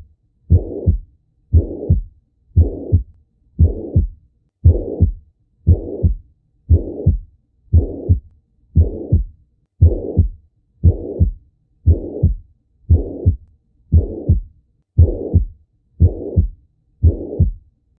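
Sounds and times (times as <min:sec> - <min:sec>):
heart murmur: 0:00.0 - 0:08.2, 0:08.8 - 0:17.6
heartbeat through stethoscope: 0:00.0 - 0:17.6.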